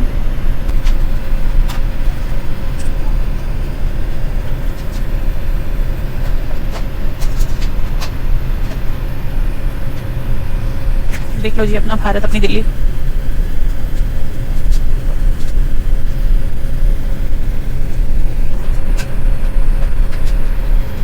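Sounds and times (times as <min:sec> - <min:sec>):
engine and airflow rumble: 0:00.0 - 0:21.0
faint hum: 0:00.0 - 0:21.0.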